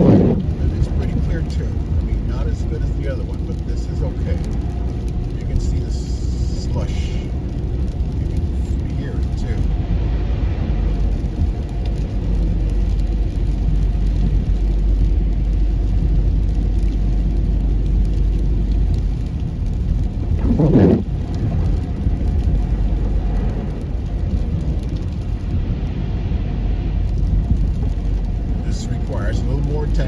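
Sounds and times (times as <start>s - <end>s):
car tyres through slush: 0.0s - 30.0s.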